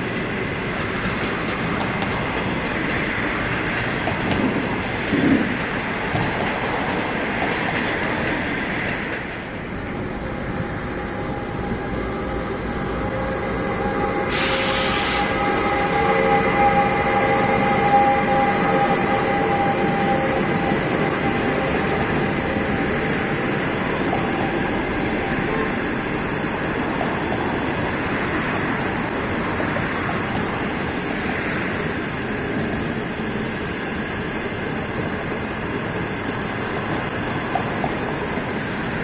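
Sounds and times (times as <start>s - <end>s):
electric locomotive whine: 0.0s - 39.0s
train wheels rumbling on rails: 0.0s - 39.0s.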